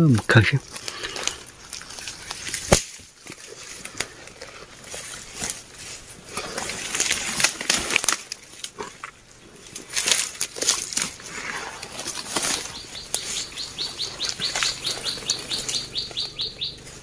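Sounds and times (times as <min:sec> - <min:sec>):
dry leaves rustling and crackling: 0:00.0 - 0:17.0
twig snapping: 0:00.6 - 0:05.6, 0:06.4 - 0:16.3.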